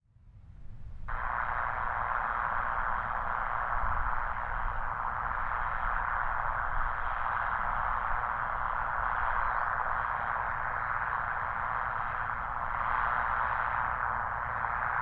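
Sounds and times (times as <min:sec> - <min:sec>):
radio static hiss from loudspeakers: 0:00.8 - 0:15.0.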